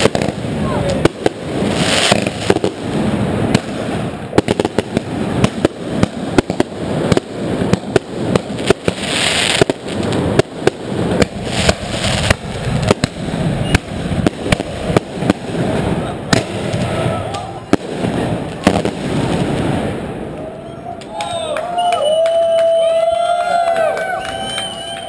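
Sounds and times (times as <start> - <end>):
firecracker cracks: 0.0 - 20.4
fireworks bangs: 0.0 - 25.0.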